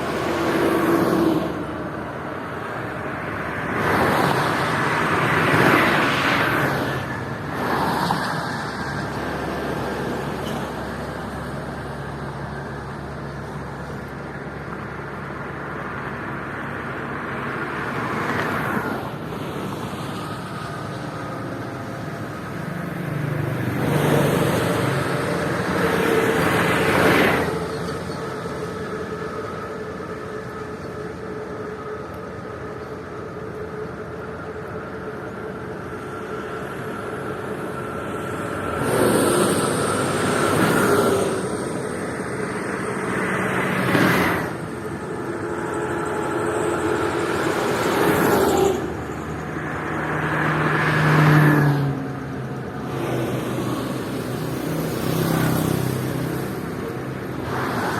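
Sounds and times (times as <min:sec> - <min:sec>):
vehicles passing at speed: 0:00.0 - 0:57.9.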